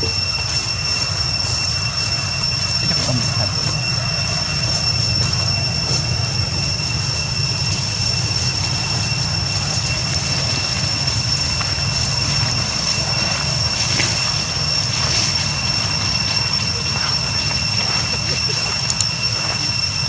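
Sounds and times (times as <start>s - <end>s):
high-pitched whine: 0.0s - 20.0s
low rumble: 0.0s - 20.0s.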